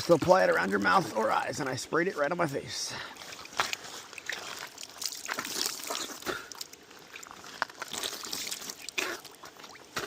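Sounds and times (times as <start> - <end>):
creek water trickling: 0.0 - 10.0.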